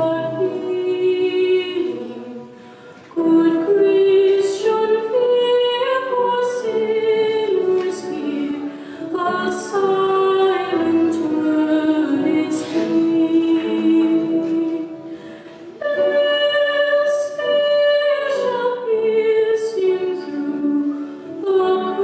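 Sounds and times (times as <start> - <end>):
woman singing: 0.0 - 15.1, 15.8 - 22.0.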